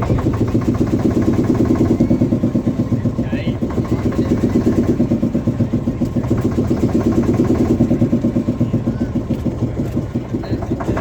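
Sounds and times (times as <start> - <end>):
motor boat engine chugging: 0.0 - 11.0.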